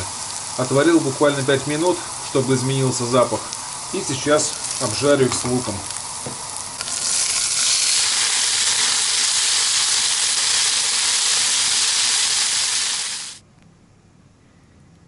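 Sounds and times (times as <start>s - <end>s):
food sizzling in hot oil: 0.0s - 13.4s.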